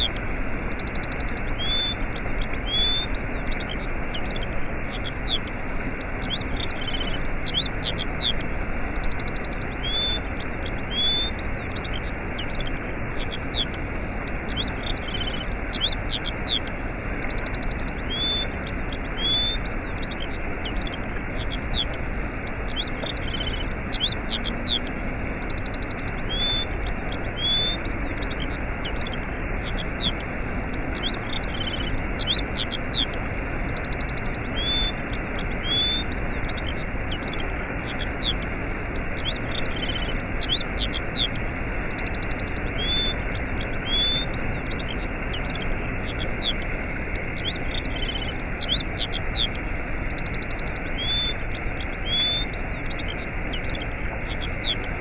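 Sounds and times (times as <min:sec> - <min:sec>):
songbirds chirping: 0:00.0 - 0:55.0
waterfall rushing: 0:00.0 - 0:55.0.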